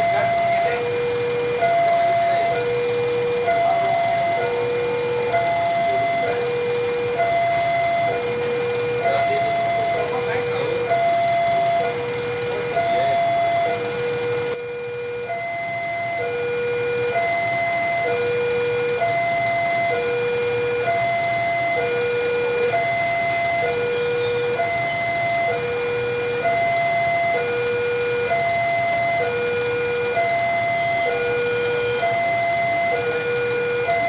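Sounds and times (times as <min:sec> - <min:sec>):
level crossing two-tone alarm: 0:00.0 - 0:34.0.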